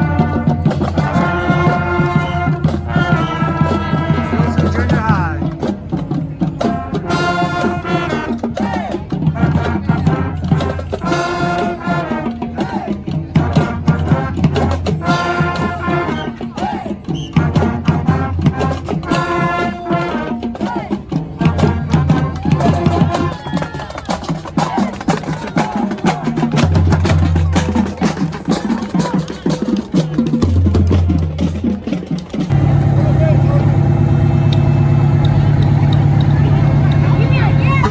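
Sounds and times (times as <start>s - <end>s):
upbeat music with drum beat: 0.0s - 32.6s.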